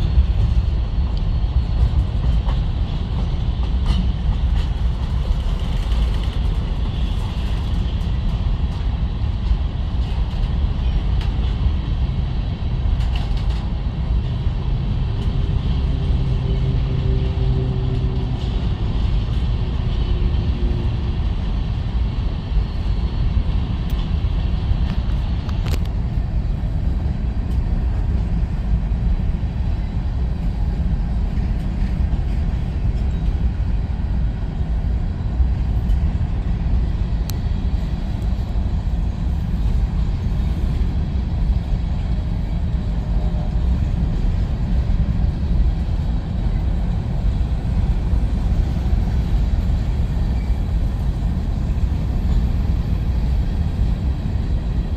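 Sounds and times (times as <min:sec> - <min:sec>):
train rolling past: 0:00.0 - 0:54.9.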